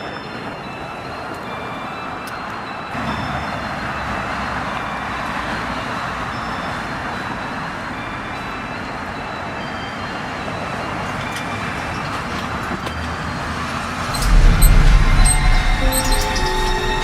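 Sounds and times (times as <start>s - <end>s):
traffic roar: 0.0s - 17.0s.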